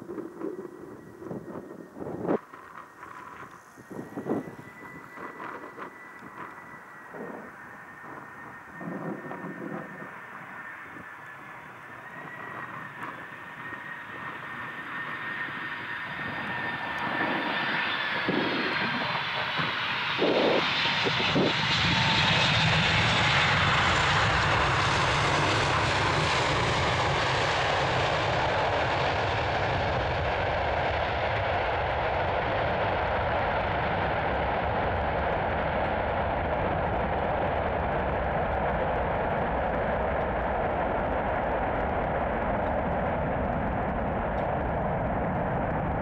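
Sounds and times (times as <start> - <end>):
jet engine whine: 0.0 - 46.0
jet roar: 0.0 - 46.0.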